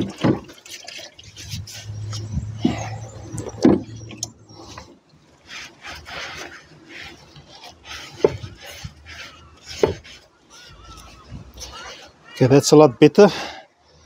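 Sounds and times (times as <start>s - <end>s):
cloth scrubbing metal drum: 0.0s - 12.8s.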